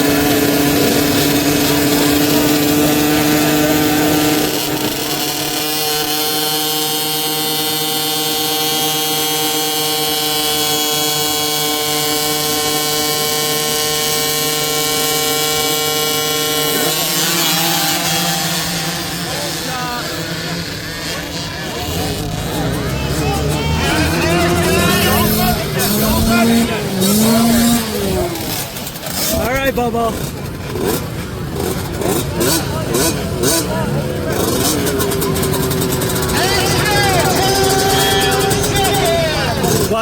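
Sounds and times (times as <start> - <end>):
dirt bike engines buzzing: 0.0 - 40.0.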